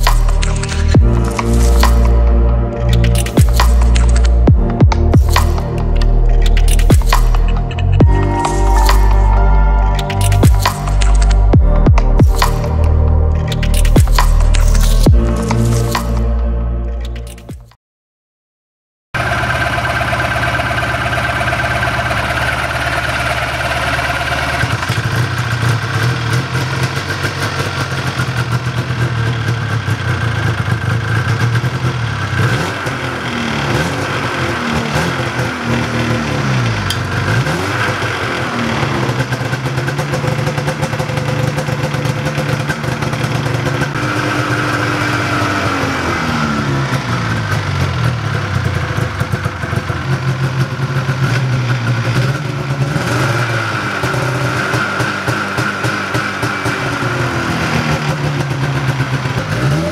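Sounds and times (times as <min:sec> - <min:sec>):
snowmobile engine idling and revving: 0:00.0 - 0:17.6, 0:19.2 - 0:59.9.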